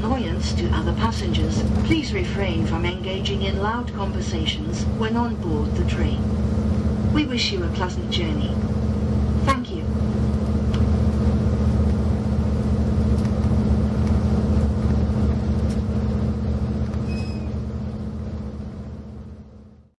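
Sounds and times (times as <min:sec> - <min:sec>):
train running rumble: 0:00.0 - 0:19.9
diesel engine hum: 0:00.0 - 0:20.0.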